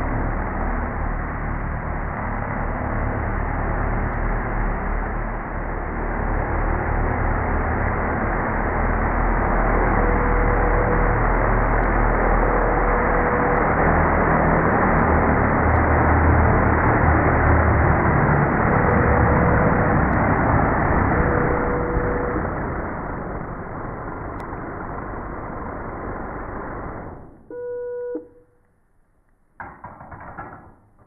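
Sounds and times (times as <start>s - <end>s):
drone propellers humming: 0.0s - 27.4s.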